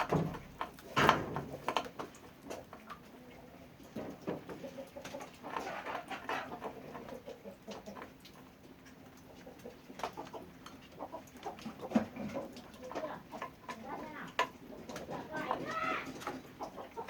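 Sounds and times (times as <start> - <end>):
farmyard birds calling: 0.0 - 17.0.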